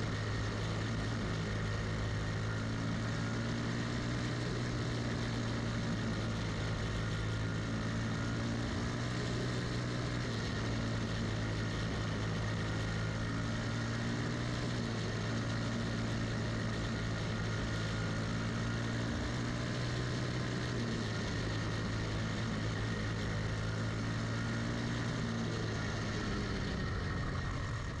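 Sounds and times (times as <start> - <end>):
kart engine running hard: 0.0 - 28.0.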